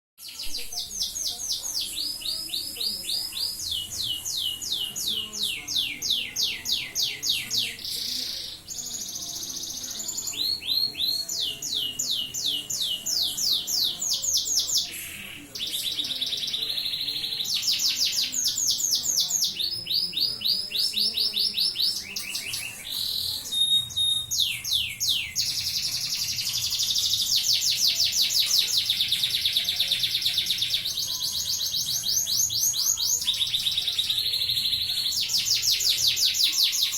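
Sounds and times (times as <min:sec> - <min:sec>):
canary singing trills: 0:00.2 - 0:36.9.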